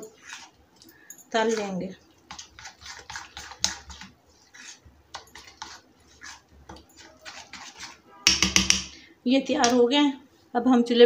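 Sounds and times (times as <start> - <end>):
spoon beating batter in bowl: 0.0 - 9.0.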